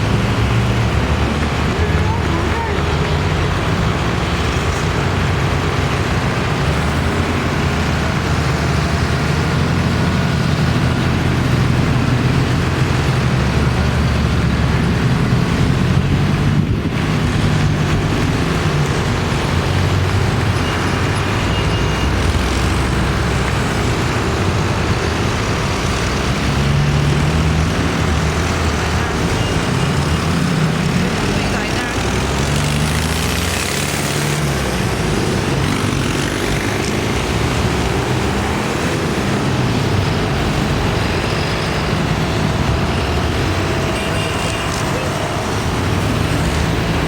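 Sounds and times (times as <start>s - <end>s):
tractor engines driving past: 0.0s - 47.0s.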